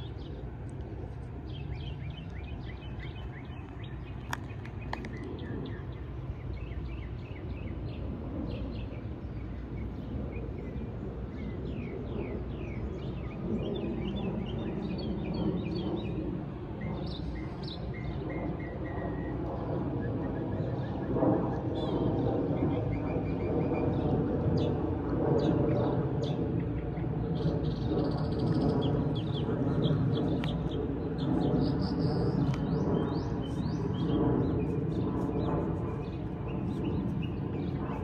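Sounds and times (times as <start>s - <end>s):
low outdoor rumble: 0.0s - 38.0s
songbirds chirping and trilling: 0.0s - 38.0s.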